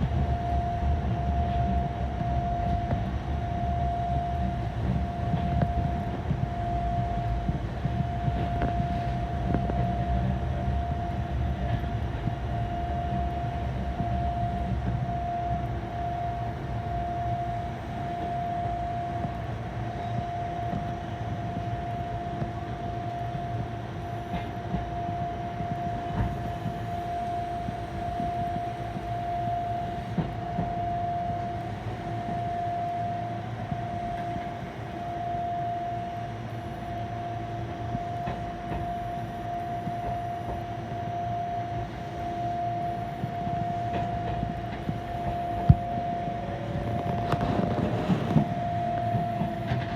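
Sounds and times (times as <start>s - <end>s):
train running with whine: 0.0s - 49.9s.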